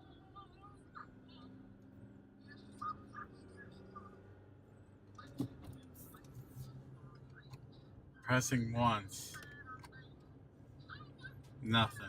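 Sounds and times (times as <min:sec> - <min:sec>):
car engine hum and road drone: 0:00.0 - 0:12.0.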